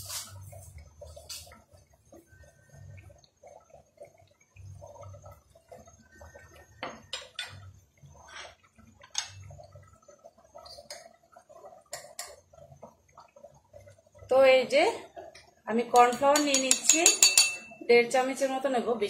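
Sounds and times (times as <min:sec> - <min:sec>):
curry bubbling in a pan: 0:00.0 - 0:19.0.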